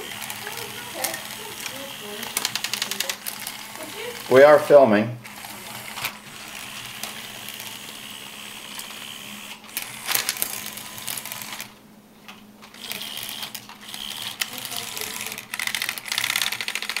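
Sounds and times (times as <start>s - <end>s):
toy tank motor whirring: 0.0s - 11.8s, 12.6s - 17.0s.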